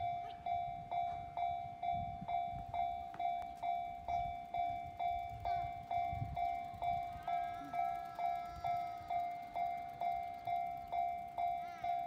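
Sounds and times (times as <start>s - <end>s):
electronic crossing bell ringing: 0.0s - 12.0s.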